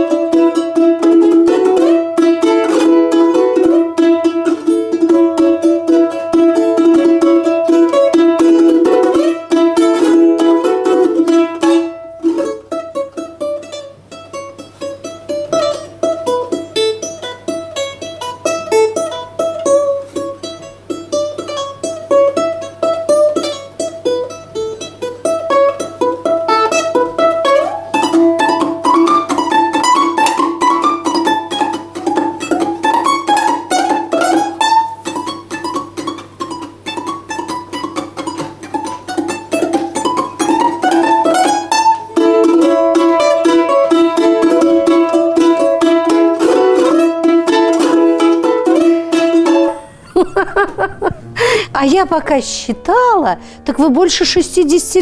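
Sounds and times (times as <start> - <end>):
balalaika playing: 0.0 - 55.0.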